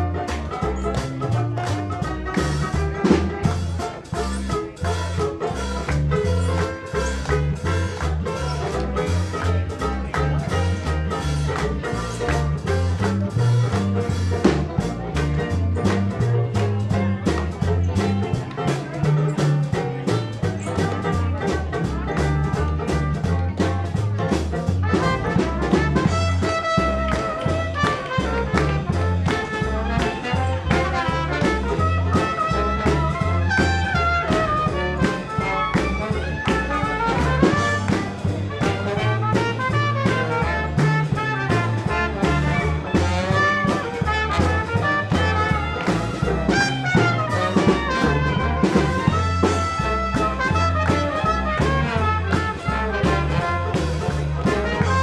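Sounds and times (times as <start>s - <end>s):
jazz band playing swing tune: 0.0s - 55.0s
trombone: 0.0s - 55.0s
trumpet: 0.0s - 55.0s.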